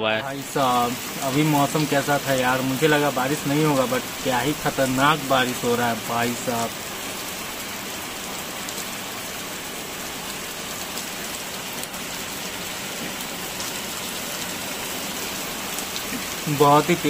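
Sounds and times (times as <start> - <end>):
heavy rain splashing: 0.1 - 17.0.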